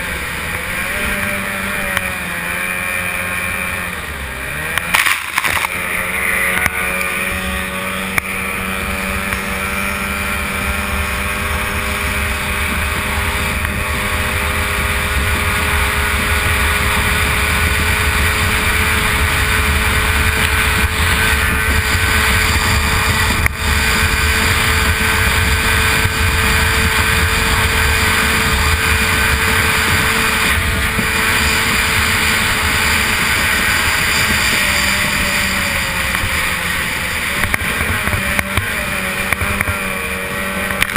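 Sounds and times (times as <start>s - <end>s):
outboard engine running high: 0.0s - 40.9s.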